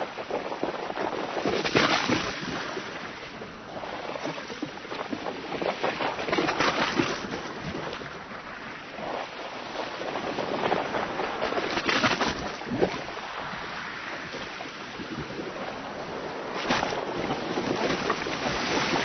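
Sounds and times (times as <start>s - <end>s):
waves splashing against boat: 0.0s - 19.0s.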